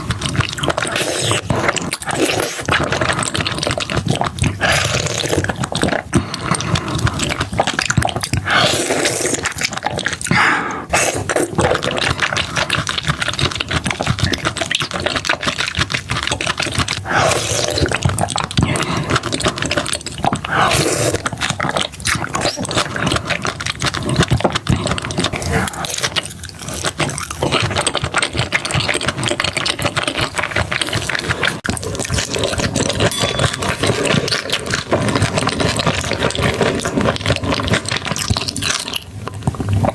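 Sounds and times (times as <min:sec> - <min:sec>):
wet chewing and smacking: 0:00.0 - 0:39.9.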